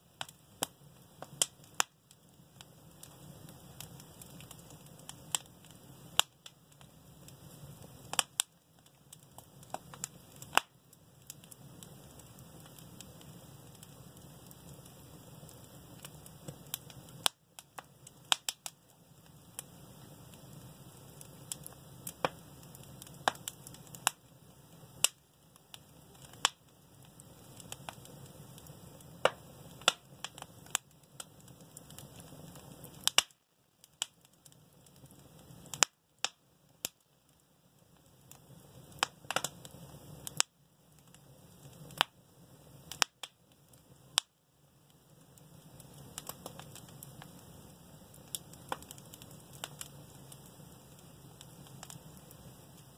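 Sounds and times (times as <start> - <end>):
faint steady hiss: 0.0 - 52.9
wood fire crackling and popping: 0.0 - 52.9.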